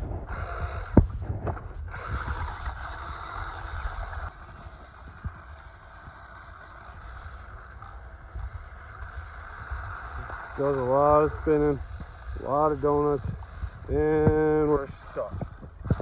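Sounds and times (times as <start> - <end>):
electric motor whirring: 0.0 - 16.0
steady low rumble: 0.0 - 16.0
tires spinning in grass: 0.0 - 16.0.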